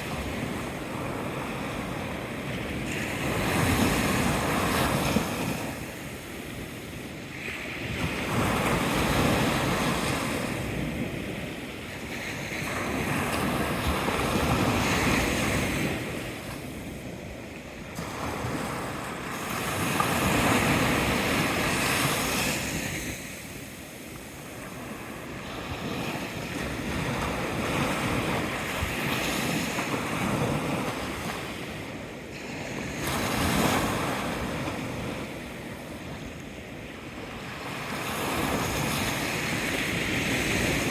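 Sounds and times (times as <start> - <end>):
ocean waves rushing: 0.0 - 40.9.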